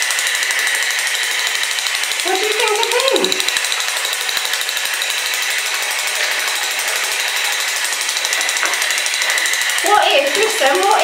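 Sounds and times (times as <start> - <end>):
toy robot motor rattling: 0.0 - 11.0.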